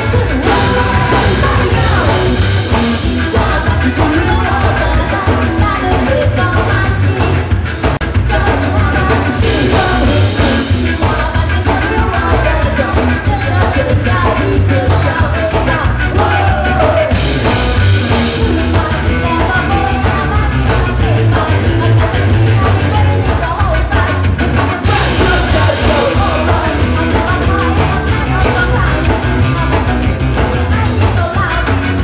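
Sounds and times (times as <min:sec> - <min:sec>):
woman singing: 0:00.0 - 0:17.2, 0:18.0 - 0:32.0
bass guitar: 0:00.0 - 0:32.0
electric guitar: 0:00.0 - 0:32.0
steady drum beat: 0:00.0 - 0:32.0.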